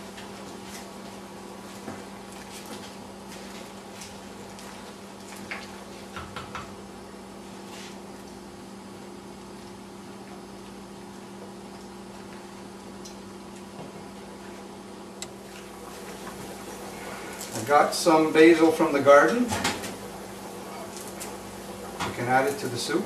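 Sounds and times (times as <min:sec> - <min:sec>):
low hum and hiss: 0:00.0 - 0:23.0
pots simmering: 0:00.0 - 0:23.0.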